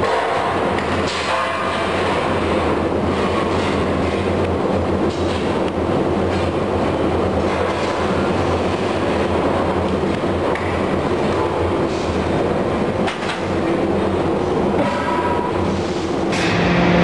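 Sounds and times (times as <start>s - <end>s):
machinery rumbling: 0.0s - 17.0s
low machine hum: 0.6s - 17.0s.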